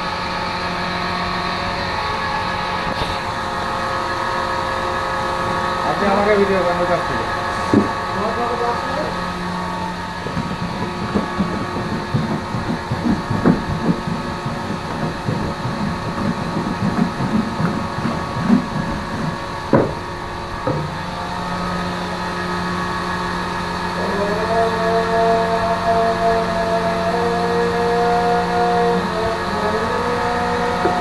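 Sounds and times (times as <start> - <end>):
high steady whine: 0.0 - 31.0
mechanical hum: 0.0 - 31.0.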